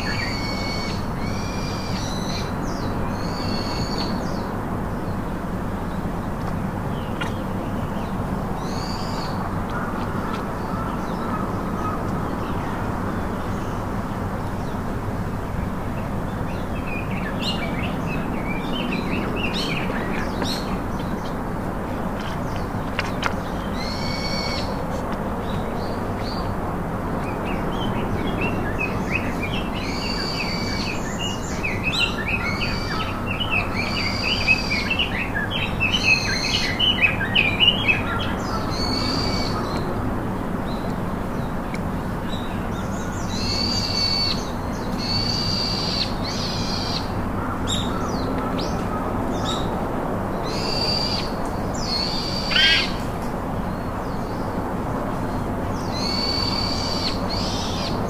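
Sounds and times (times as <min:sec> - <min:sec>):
wild birds calling: 0:00.0 - 0:06.1, 0:06.9 - 0:14.9, 0:15.5 - 0:26.6, 0:27.3 - 0:58.0
outdoor background hiss: 0:00.0 - 0:58.0.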